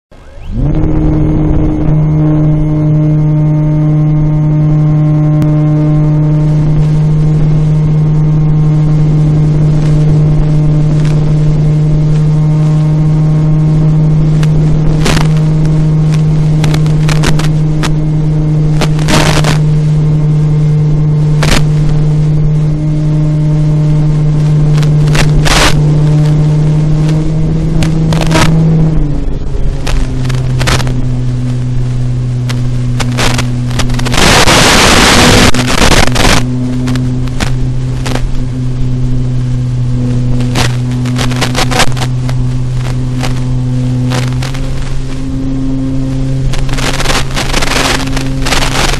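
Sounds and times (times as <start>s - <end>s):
crackling bursts of noise: 0.1s - 48.9s
electric motor and propeller humming: 0.1s - 48.9s.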